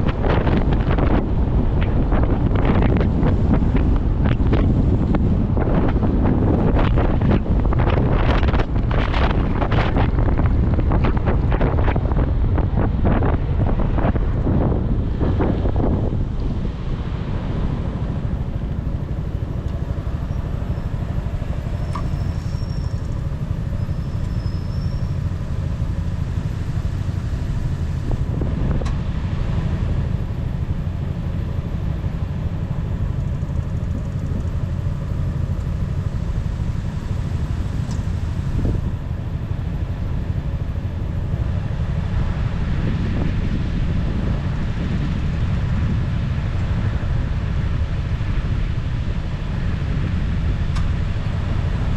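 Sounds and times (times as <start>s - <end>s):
motorcycle engine running: 0.0s - 51.9s
wind on microphone: 0.0s - 51.9s.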